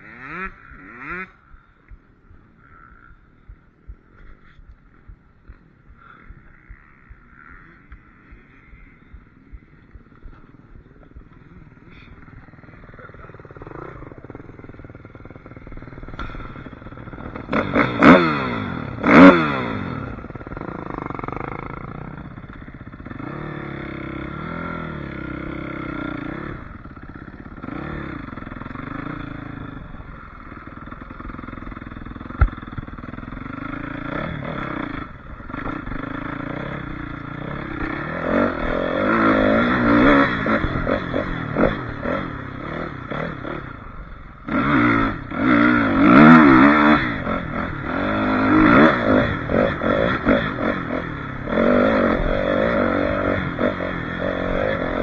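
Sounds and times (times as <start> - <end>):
dirt bike engine revving: 0.0 - 1.8, 2.6 - 55.0.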